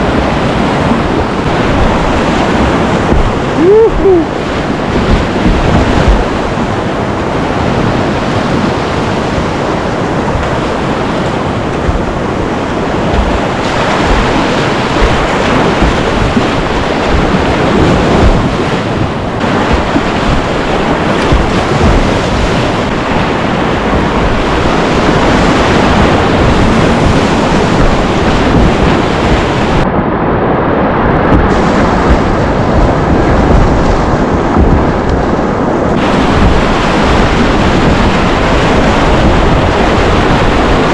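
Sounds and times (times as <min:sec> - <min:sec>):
whitewater rapids rushing: 0:00.0 - 0:40.9
wind buffeting microphone: 0:00.0 - 0:40.9.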